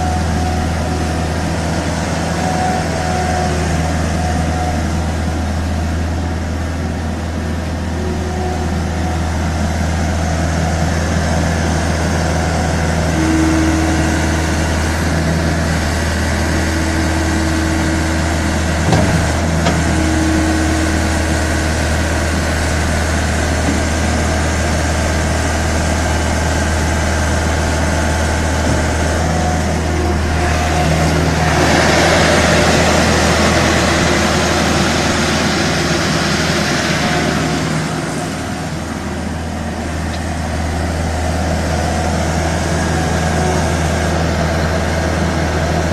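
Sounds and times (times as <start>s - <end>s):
loader engine humming: 0.0s - 45.9s.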